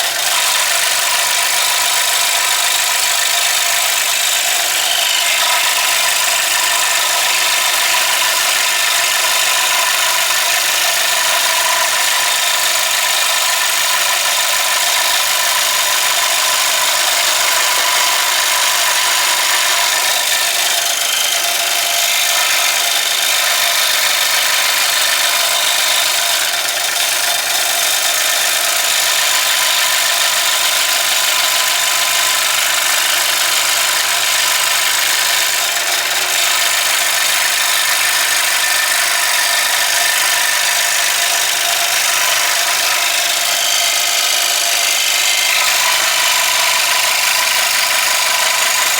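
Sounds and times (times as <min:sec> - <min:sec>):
power saw cutting: 0:00.0 - 0:48.9.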